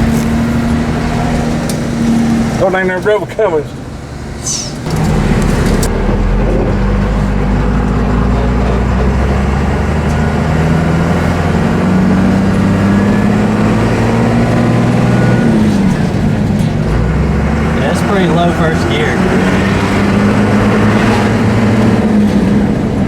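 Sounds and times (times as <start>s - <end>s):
diesel truck engine pulling away: 0.0s - 23.0s.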